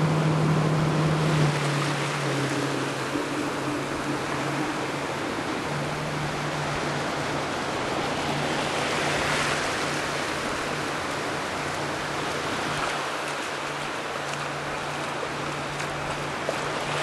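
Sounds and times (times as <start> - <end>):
low engine hum: 0.0 - 17.0
rushing water: 0.0 - 17.0.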